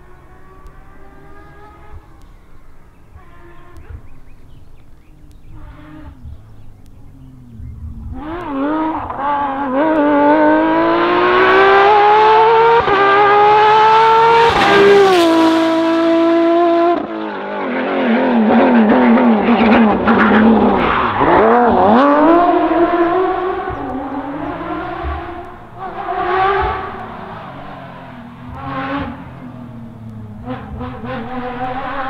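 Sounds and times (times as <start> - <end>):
race car engine at full throttle: 0.0 - 32.0.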